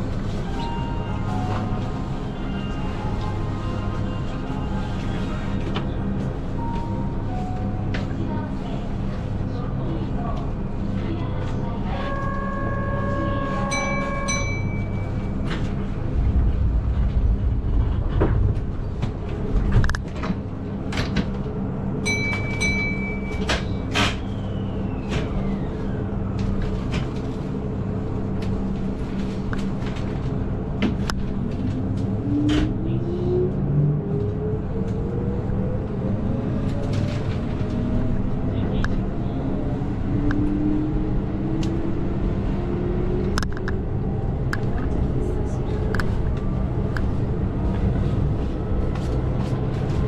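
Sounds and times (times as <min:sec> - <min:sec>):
train rumble with rail clicks: 0:00.0 - 0:50.0.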